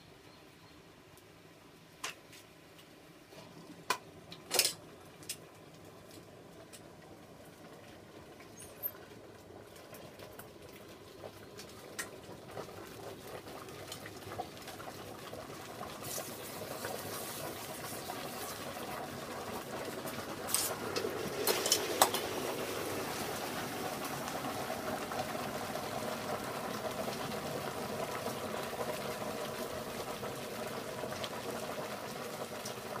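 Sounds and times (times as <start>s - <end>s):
water hissing and boiling: 5.2s - 33.0s.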